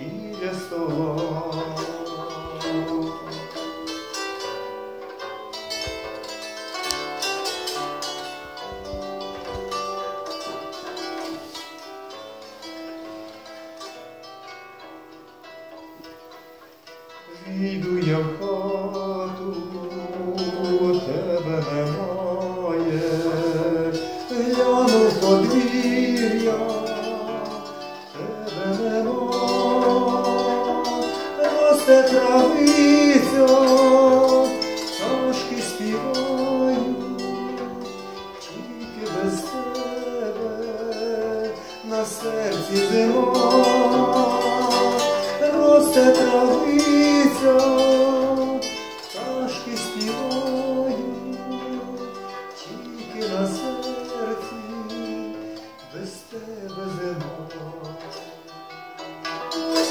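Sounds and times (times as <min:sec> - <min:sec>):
man singing with vibrato: 0:00.0 - 0:59.9
plucked bandura strings: 0:00.0 - 0:59.9.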